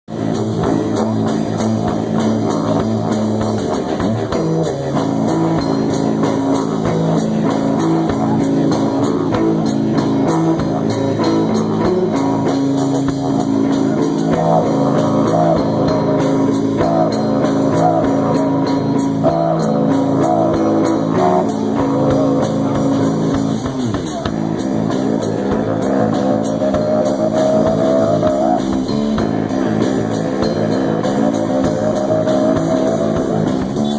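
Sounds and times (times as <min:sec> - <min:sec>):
rock music with guitar and drums: 0:00.1 - 0:33.9.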